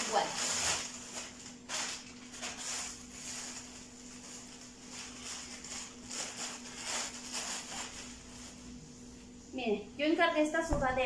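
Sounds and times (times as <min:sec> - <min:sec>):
plastic bags rustling: 0:00.0 - 0:08.9.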